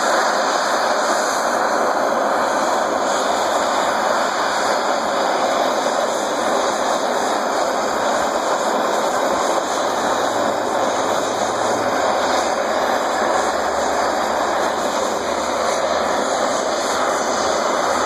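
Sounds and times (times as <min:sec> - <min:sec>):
propane torch hissing: 0:00.0 - 0:18.0.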